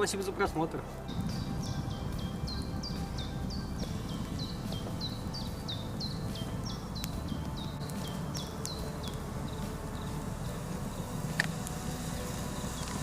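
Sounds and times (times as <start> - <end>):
low outdoor rumble: 0.0 - 13.0
bird calling high notes: 0.9 - 13.0.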